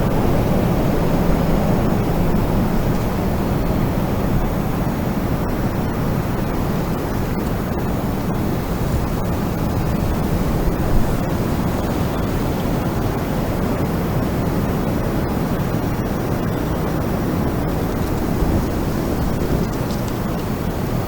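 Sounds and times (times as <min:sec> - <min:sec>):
strong wind blowing: 0:00.0 - 0:21.0.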